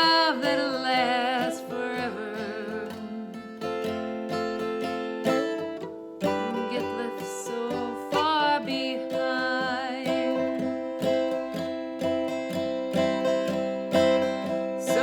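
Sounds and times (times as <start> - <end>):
plucked string instrument chords: 0.0 - 15.0.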